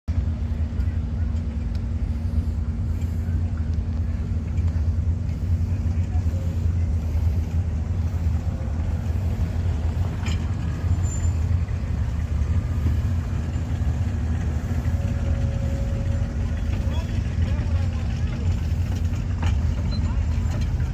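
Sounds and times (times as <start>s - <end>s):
locomotive engine droning: 0.0s - 20.9s.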